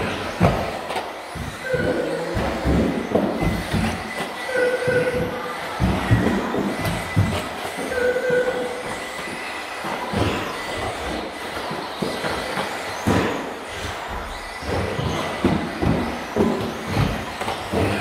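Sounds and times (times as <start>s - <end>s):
toy car motors whirring: 0.0s - 18.0s.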